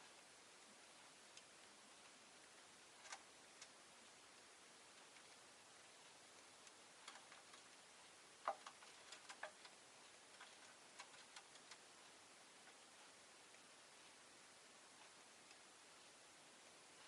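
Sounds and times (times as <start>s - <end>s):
small clicks and ticks: 0.0s - 17.0s.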